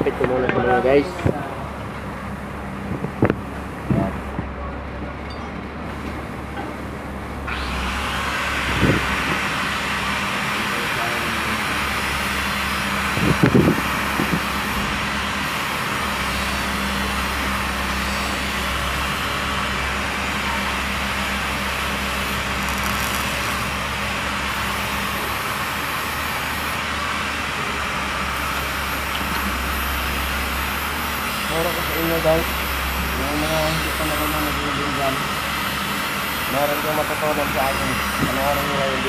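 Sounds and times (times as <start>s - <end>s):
machinery hum with hiss: 0.0s - 39.0s.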